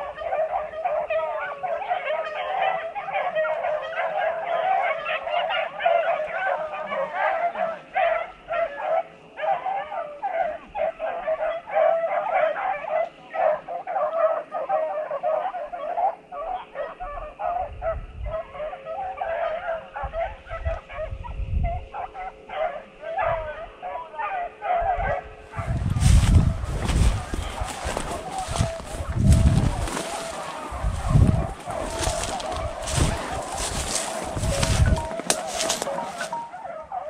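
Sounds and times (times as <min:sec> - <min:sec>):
hounds baying: 0:00.0 - 0:37.0.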